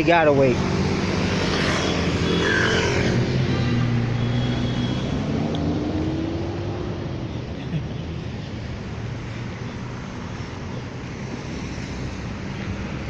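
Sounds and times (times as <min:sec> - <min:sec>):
traffic going by: 0:00.0 - 0:13.0.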